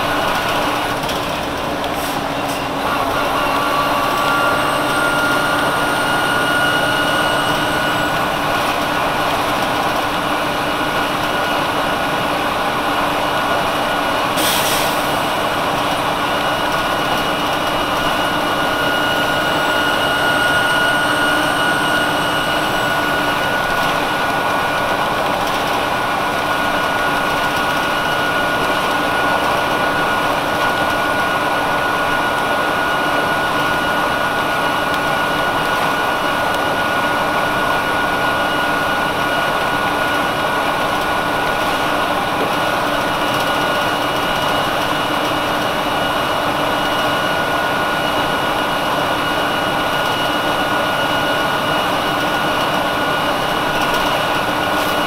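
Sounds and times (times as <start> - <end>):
bus engine running with high whine: 0.0 - 55.0.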